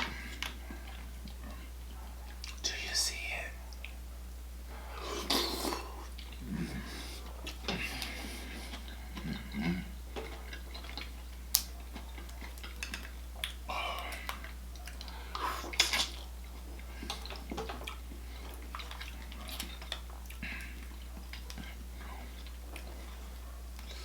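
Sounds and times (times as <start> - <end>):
wet saucy squelches: 4.8 - 24.0.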